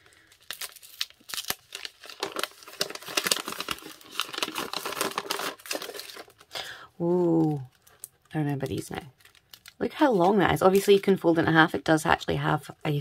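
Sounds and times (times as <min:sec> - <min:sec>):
paper wrapping crinkling: 0:00.0 - 0:11.0.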